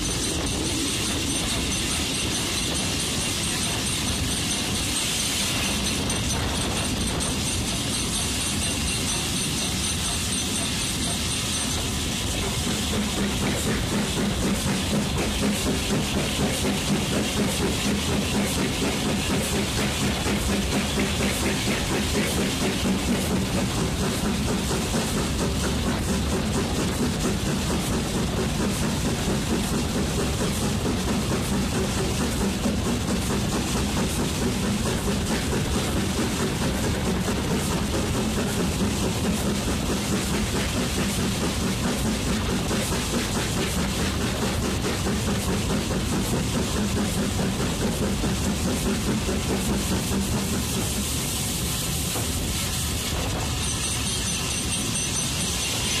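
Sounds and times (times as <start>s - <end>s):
steam hissing: 0.0s - 56.0s
steam locomotive exhaust chuffs: 0.0s - 56.0s.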